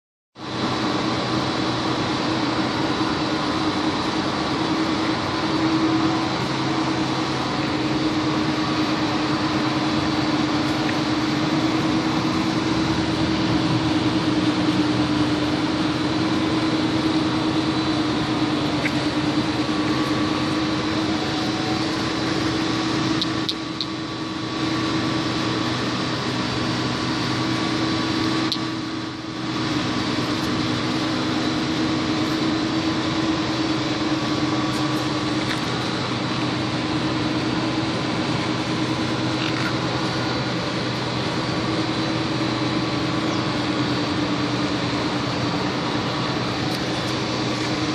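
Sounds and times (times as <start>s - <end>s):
two-stroke engine running: 0.6s - 47.9s.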